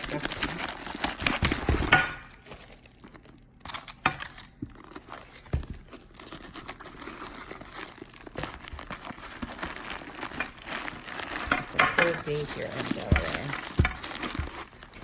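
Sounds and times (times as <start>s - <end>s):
stuffing crinkling and rustling: 0.0s - 15.0s.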